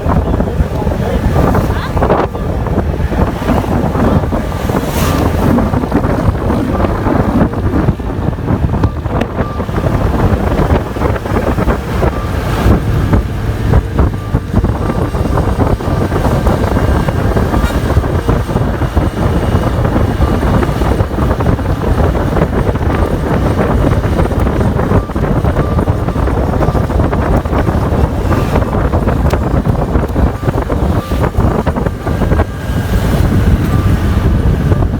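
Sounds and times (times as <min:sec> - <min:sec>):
vehicle rumble on road: 0:00.0 - 0:34.9
wind buffeting microphone: 0:00.0 - 0:34.9.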